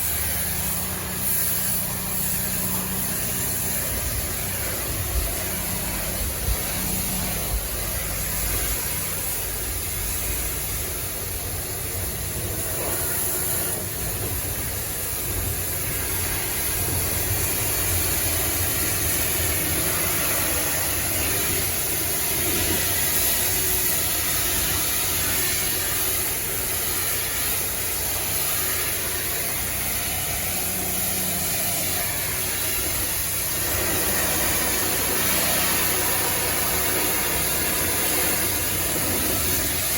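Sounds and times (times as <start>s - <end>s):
hiss of water spray: 0.0s - 39.9s
pressure washer running: 0.0s - 39.9s.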